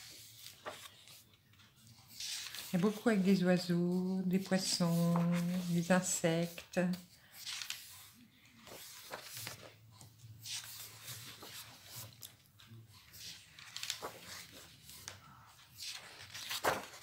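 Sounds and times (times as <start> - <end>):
paper pages turning and rustling: 0.0 - 17.0.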